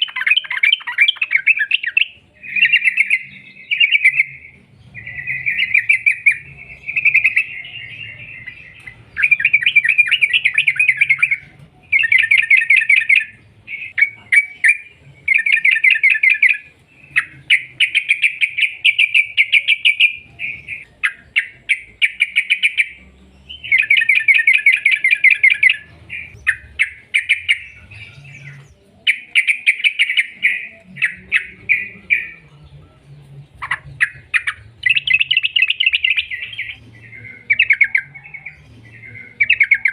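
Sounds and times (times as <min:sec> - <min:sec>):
bird singing rolling trills: 0:00.0 - 0:39.9.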